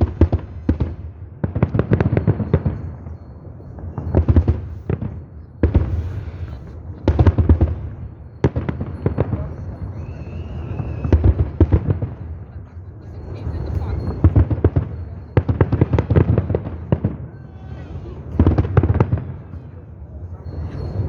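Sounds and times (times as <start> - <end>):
firework low booms: 0.0 - 21.0.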